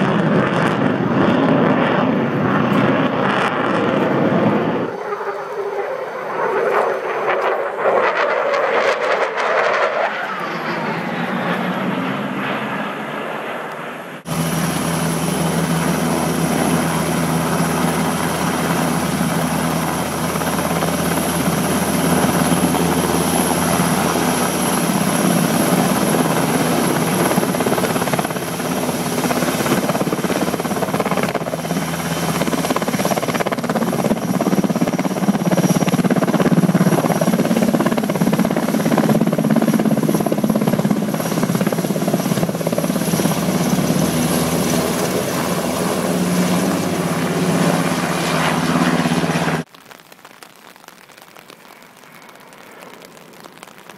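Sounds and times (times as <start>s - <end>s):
helicopter rotor rush: 0.0s - 49.7s
helicopter turbine whine: 0.0s - 49.7s.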